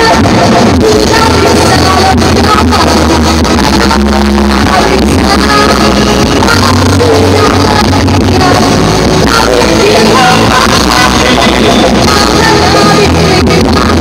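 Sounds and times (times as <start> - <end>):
live rock band: 0.0 - 14.0
woman singing: 0.0 - 14.0.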